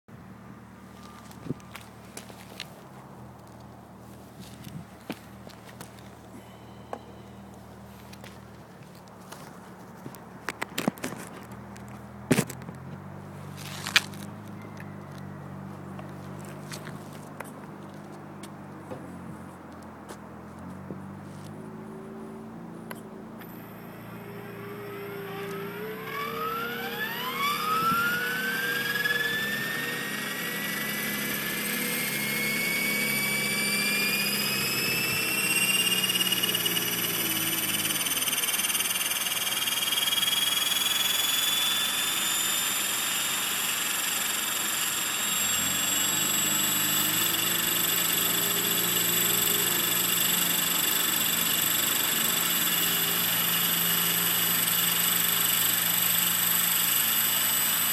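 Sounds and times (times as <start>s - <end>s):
rotor hum: 0.0s - 57.9s
rc helicopter motor whine: 0.2s - 57.9s.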